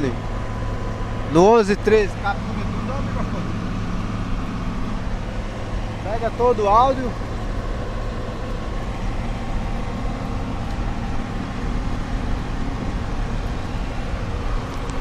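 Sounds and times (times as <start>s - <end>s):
car engine rumble in cabin: 0.0s - 15.0s.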